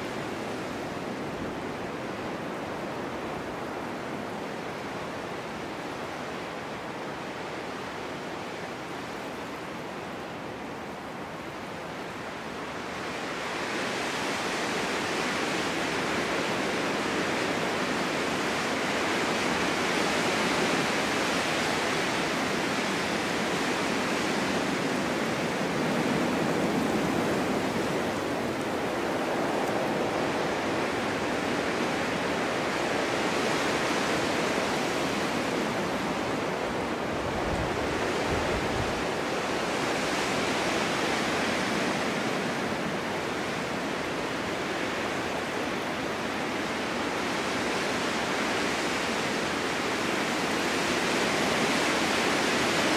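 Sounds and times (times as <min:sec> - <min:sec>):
wind blowing hard: 0:00.0 - 0:52.9.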